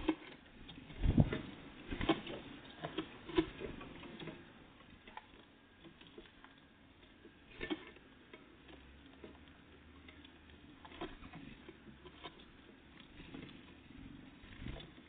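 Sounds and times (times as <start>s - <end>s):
birds pecking at a feeder: 0.0s - 15.0s.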